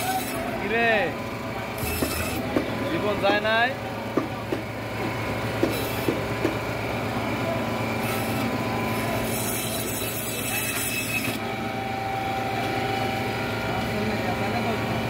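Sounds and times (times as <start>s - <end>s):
market background noise: 0.0s - 15.0s.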